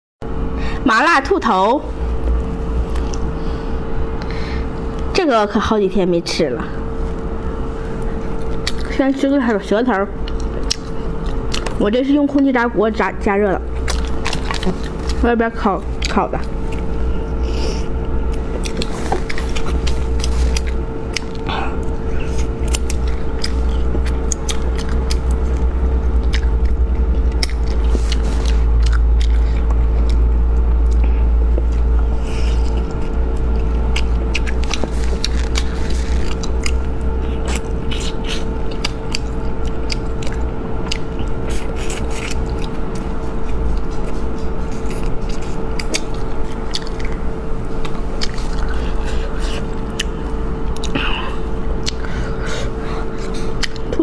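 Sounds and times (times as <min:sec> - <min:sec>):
steady low hum: 0:00.2 - 0:54.0
person chewing meat: 0:02.0 - 0:05.1, 0:06.8 - 0:09.0, 0:10.2 - 0:12.3, 0:13.6 - 0:54.0.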